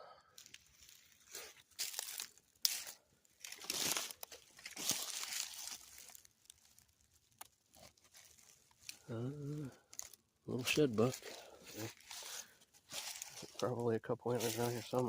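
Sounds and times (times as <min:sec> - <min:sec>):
footsteps crunching on forest floor: 0:00.4 - 0:15.0.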